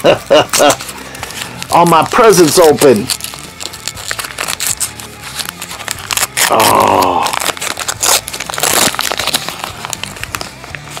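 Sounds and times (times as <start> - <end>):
wrapping paper rustling: 0.0 - 11.0.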